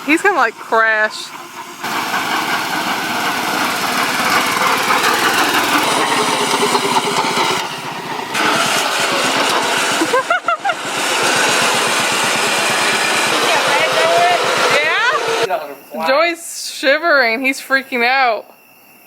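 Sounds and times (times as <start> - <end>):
lawn mower engine running hard: 0.0 - 15.5
high rising squeaks: 0.0 - 16.2.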